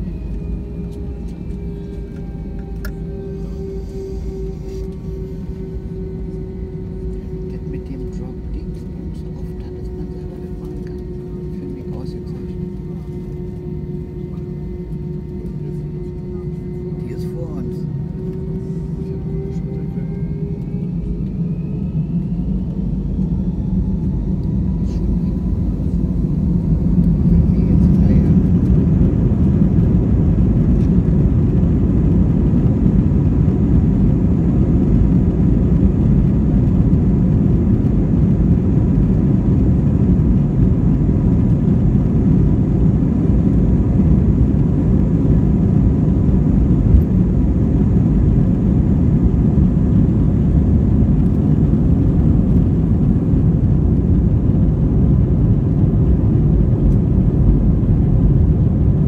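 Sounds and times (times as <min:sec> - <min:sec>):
jet engines at takeoff power: 0:00.0 - 0:59.0.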